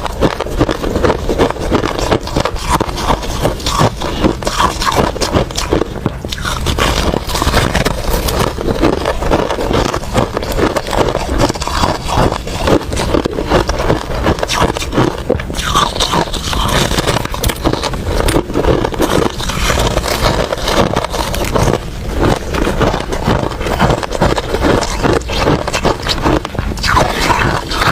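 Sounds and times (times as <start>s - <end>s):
chewing hard ice: 0.0s - 27.9s.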